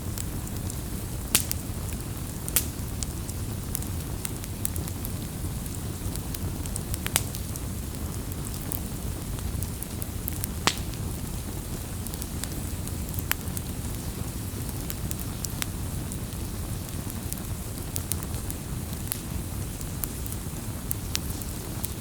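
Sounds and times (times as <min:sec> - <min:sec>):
campfire rumbling and crackling: 0:00.0 - 0:22.0
fire popping: 0:00.0 - 0:22.0.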